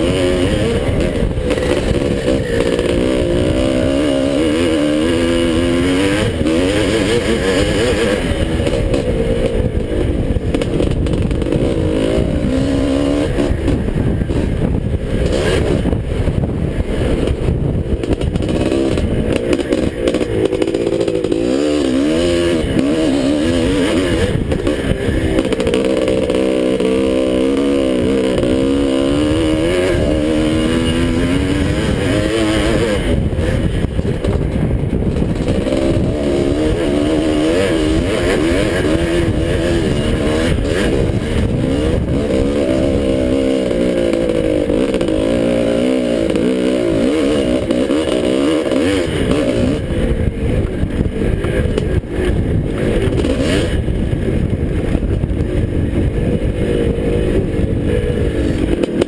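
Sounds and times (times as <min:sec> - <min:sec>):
motorcycle engine racing: 0:00.0 - 0:59.0.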